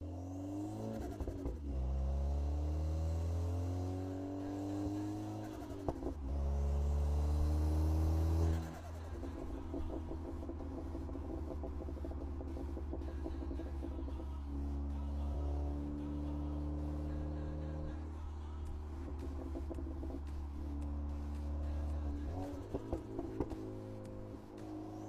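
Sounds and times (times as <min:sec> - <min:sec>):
turbocharged engine revving: 0:00.0 - 0:25.0.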